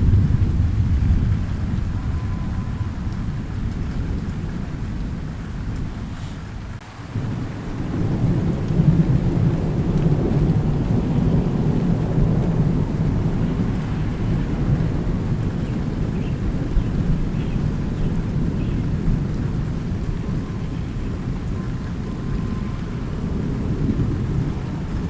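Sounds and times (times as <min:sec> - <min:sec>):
steady rain: 0:00.0 - 0:25.0
thunder rumbling: 0:00.0 - 0:25.0.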